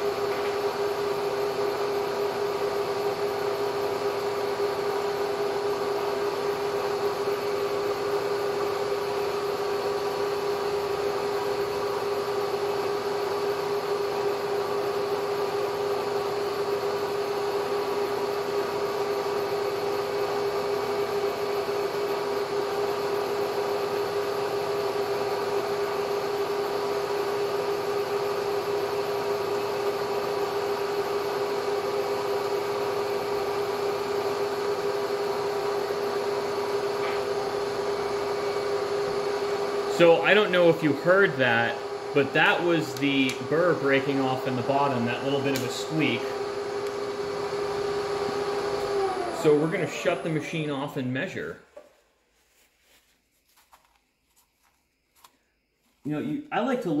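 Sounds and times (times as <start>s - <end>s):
milling machine running: 0.0s - 51.4s.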